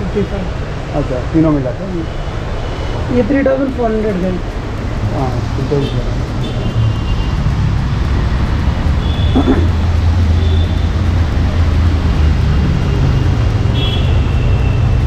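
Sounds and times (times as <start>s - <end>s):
traffic on a wet road: 0.0s - 15.0s.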